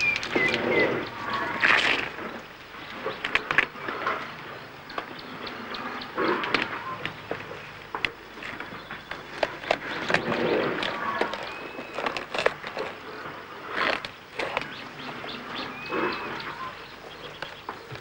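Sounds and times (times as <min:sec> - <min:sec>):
dry bark rustling: 0:00.0 - 0:05.4, 0:06.2 - 0:18.0
elephants chewing bark: 0:00.0 - 0:18.0.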